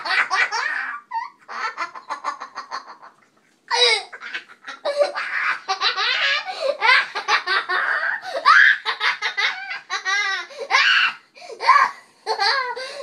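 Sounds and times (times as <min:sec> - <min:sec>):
child laughing in high giggles: 0:00.0 - 0:13.0.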